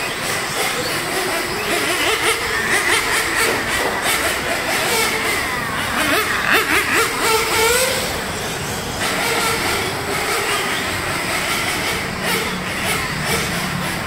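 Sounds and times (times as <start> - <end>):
rc car engines racing: 0.0 - 14.0.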